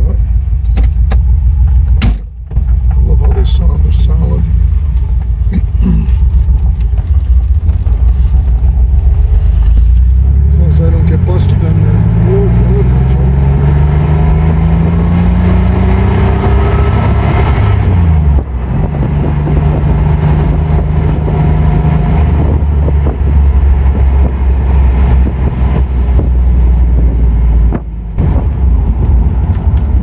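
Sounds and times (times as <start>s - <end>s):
car engine accelerating: 2.7s - 30.0s.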